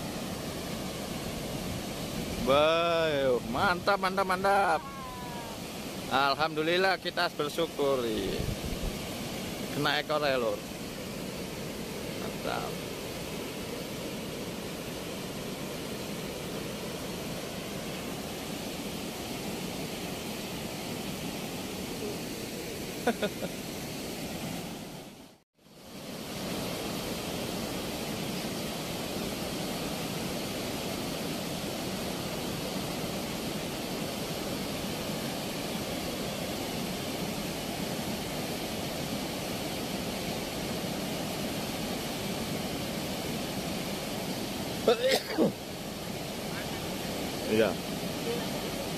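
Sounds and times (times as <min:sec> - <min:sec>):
floodwater rushing through sluice gates: 0:00.0 - 0:23.2, 0:26.1 - 0:48.9.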